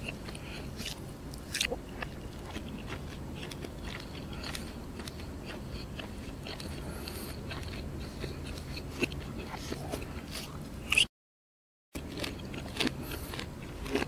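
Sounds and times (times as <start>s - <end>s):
crunchy chewing: 0.0s - 11.1s, 12.0s - 14.0s.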